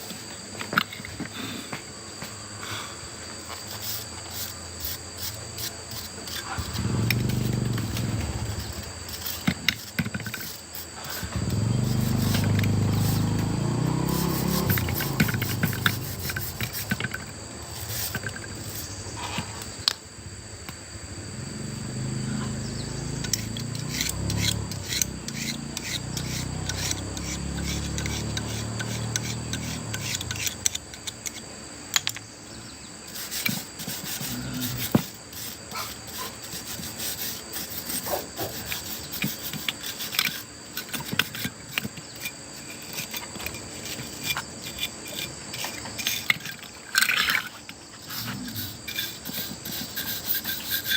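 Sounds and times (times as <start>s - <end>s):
scraping and rubbing: 3.7s - 19.6s, 23.3s - 30.8s, 33.1s - 50.9s.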